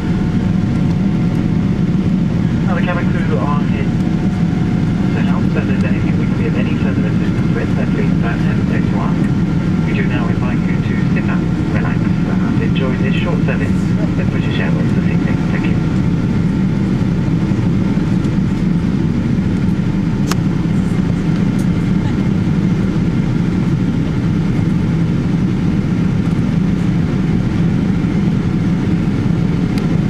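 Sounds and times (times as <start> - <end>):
airliner engines rumbling: 0.0 - 30.0.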